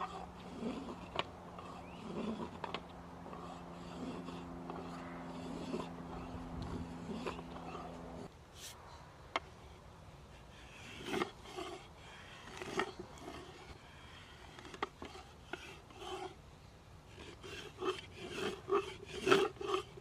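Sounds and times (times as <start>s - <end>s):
rasp filing wood: 0.0s - 8.3s, 10.4s - 16.4s, 17.1s - 20.0s
low steady hum: 0.0s - 20.0s.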